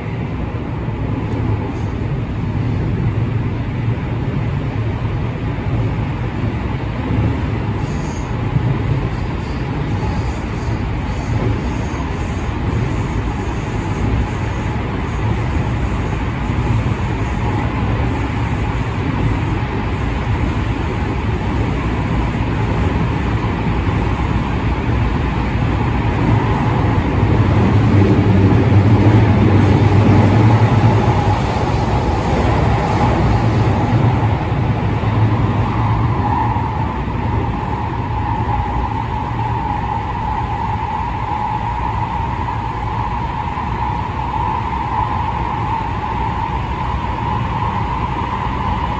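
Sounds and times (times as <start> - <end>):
train running gear rumble: 0.0 - 48.9.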